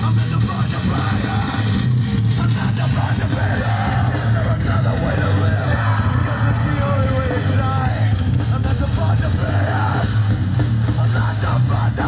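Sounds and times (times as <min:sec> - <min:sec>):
heavy rock music through car speaker: 0:00.0 - 0:12.0.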